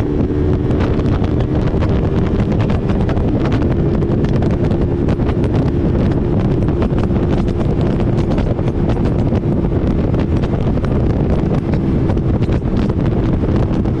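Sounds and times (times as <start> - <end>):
motorcycle engine: 0.0 - 14.0
wind buffeting microphone: 0.0 - 14.0.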